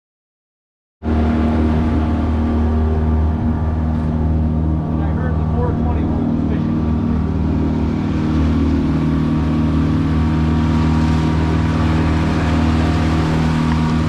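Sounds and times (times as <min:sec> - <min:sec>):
boat engine running: 0:01.0 - 0:14.0.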